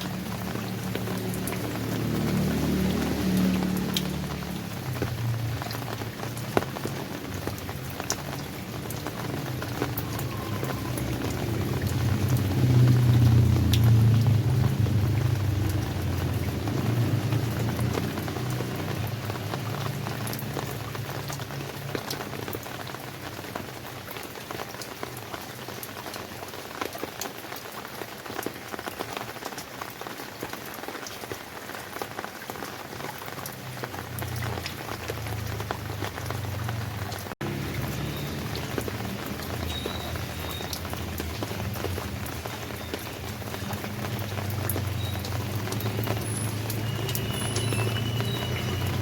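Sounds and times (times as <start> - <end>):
rain drops pattering: 0.0 - 49.0.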